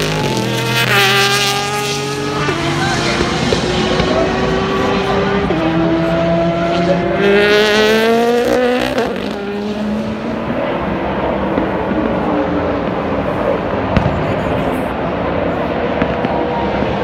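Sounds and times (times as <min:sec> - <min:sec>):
race car accelerating past: 0:00.0 - 0:14.1
drone of race engines: 0:00.0 - 0:17.0.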